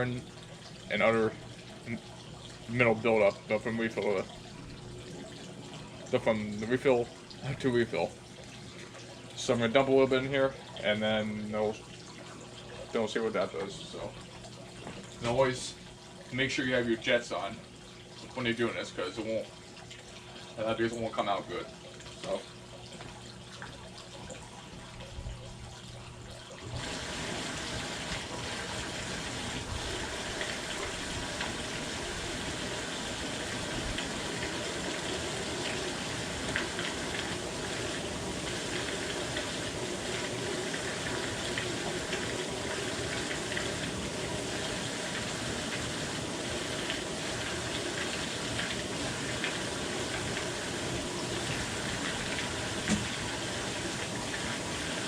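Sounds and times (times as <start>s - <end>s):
hot tub jets churning water: 0.0s - 55.0s.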